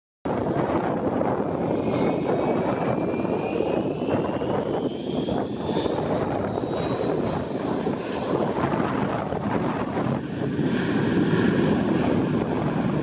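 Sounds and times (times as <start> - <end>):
jet engines roaring: 0.3 - 13.0.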